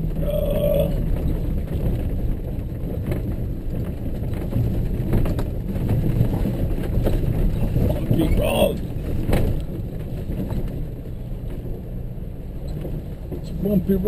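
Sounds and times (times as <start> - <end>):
vehicle engine and tyres on gravel: 0.0 - 14.0
vehicle knocks and rattles: 1.0 - 14.0.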